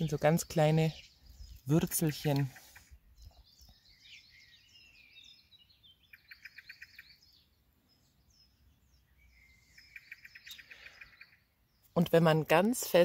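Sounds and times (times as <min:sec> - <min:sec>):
bird trill: 0:00.0 - 0:11.9
songbirds chirping: 0:00.0 - 0:13.0.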